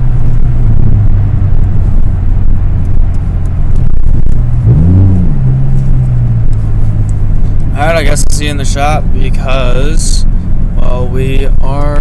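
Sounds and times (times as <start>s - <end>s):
car exhaust drone inside cabin: 0.0s - 12.0s.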